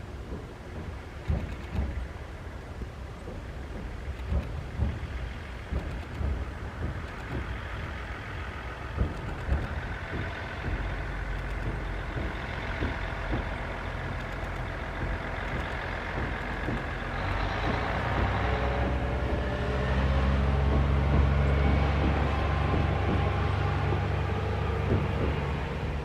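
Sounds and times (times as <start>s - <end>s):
diesel railcar engine droning: 0.0s - 26.0s.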